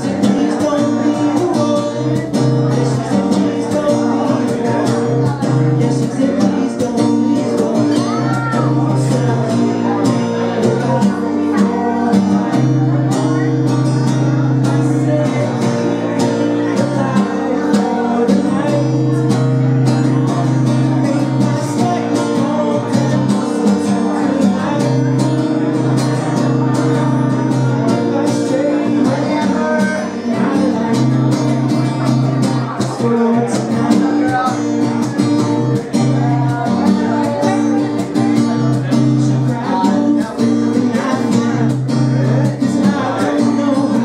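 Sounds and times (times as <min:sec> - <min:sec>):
acoustic guitar strumming: 0:00.0 - 0:44.0
man singing into a microphone: 0:00.0 - 0:44.0.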